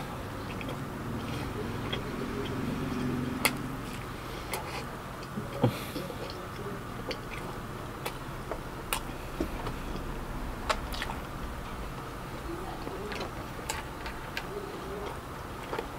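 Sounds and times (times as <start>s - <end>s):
person chewing food: 0.0s - 12.1s, 12.9s - 15.9s.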